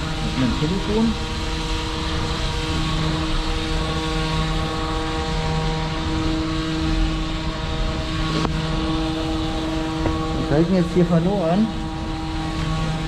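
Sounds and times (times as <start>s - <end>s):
drain-jetting machine pump humming: 0.0s - 13.0s.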